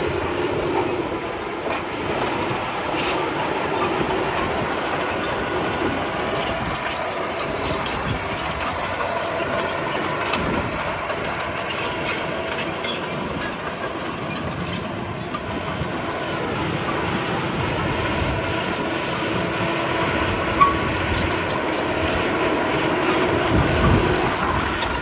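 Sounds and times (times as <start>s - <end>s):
bulldozer diesel engine running: 0.0s - 25.0s
steel tracks clattering: 0.0s - 25.0s.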